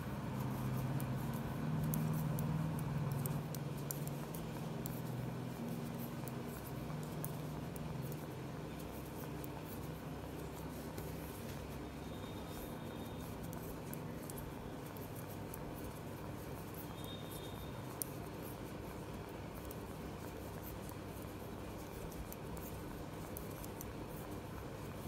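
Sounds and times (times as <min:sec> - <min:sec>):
knitting needles clicking: 0:00.0 - 0:25.0
low room hum: 0:00.0 - 0:25.0.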